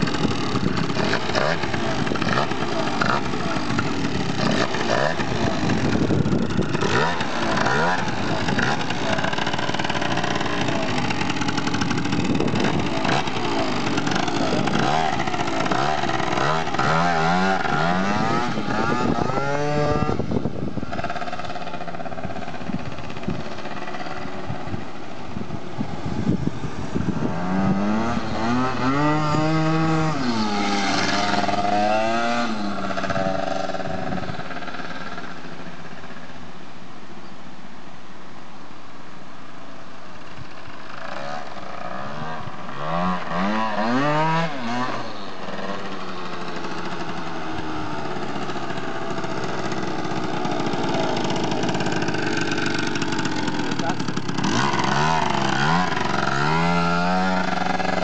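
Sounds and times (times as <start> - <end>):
scooter engine revving: 0.0 - 36.1, 40.3 - 58.0.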